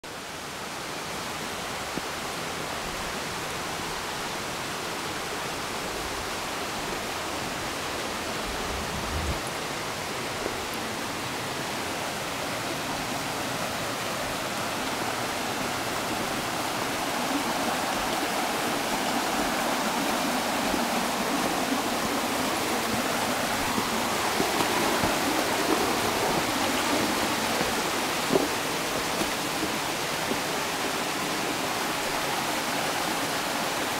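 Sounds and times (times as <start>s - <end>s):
stream tumbling over rocks: 0.1s - 33.9s
waterfall rushing: 0.1s - 33.9s.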